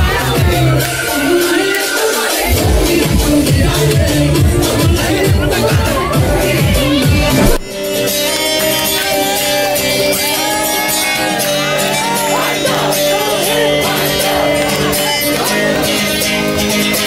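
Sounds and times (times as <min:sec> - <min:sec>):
voices singing and shouting: 0:00.0 - 0:07.6, 0:08.6 - 0:17.0.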